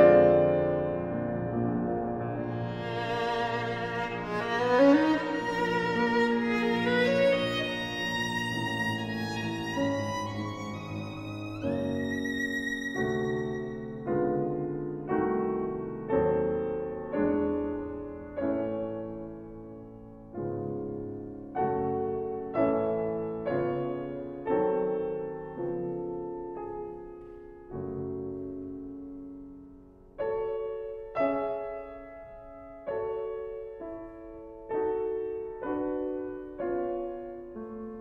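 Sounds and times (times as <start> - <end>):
grand piano chords: 0.0 - 38.0.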